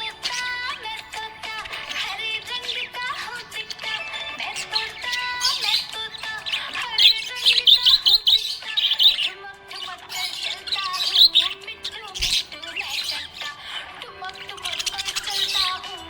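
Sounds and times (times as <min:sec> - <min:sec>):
background music: 0:00.0 - 0:16.0
parrots chirping and chattering: 0:00.0 - 0:16.0.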